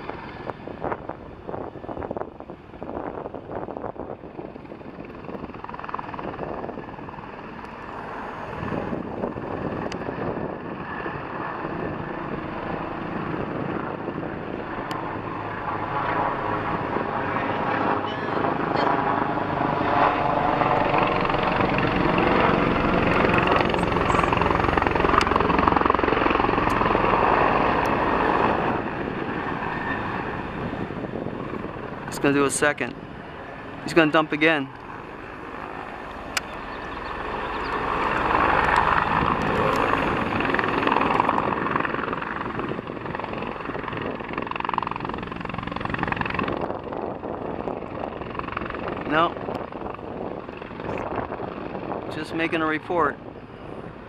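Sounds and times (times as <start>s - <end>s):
helicopter rotor beating: 0.0s - 54.0s.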